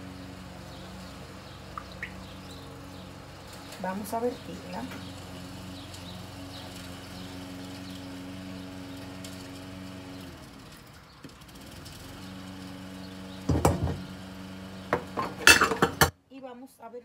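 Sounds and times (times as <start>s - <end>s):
motor humming: 0.0s - 16.1s.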